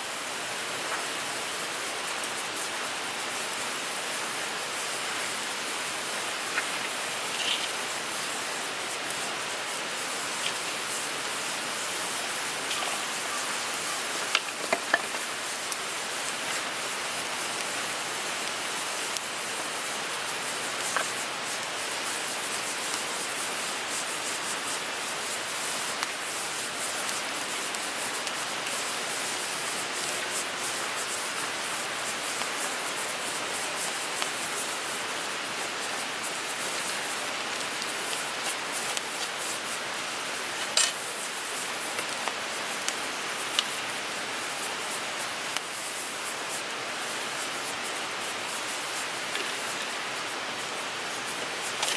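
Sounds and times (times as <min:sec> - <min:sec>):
wood fire crackling: 0:00.2 - 0:51.9.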